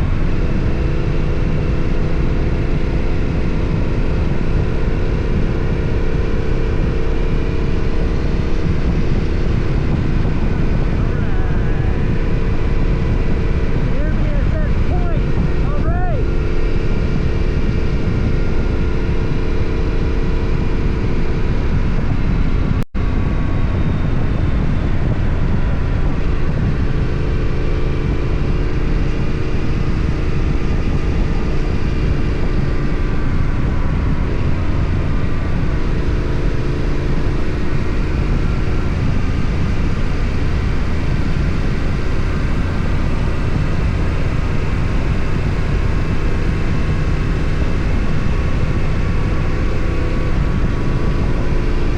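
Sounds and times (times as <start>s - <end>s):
motorcycle engine and exhaust: 0.0s - 51.9s
wind and road noise: 0.0s - 51.9s.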